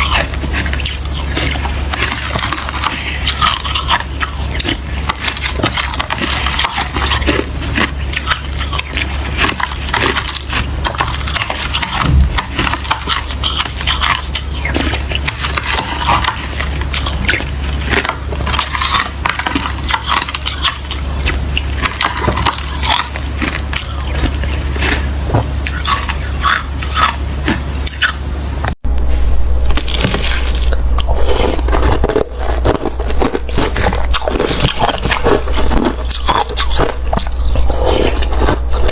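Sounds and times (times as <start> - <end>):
chewing slushy ice: 0.0 - 28.3, 29.6 - 38.9.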